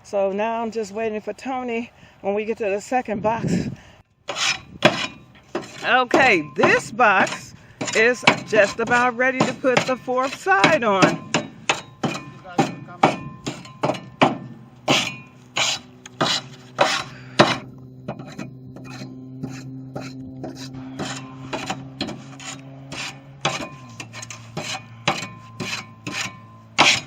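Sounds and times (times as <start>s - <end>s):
steady low hum: 3.6s - 27.0s
hand tool scraping soil: 4.2s - 13.8s, 14.8s - 27.0s.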